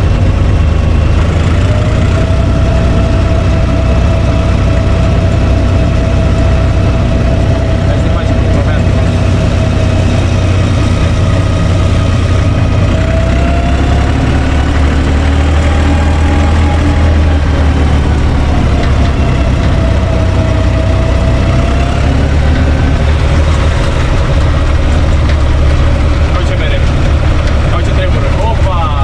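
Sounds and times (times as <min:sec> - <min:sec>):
faint whine: 0:00.0 - 0:29.0
tractor diesel engine running: 0:00.0 - 0:29.0.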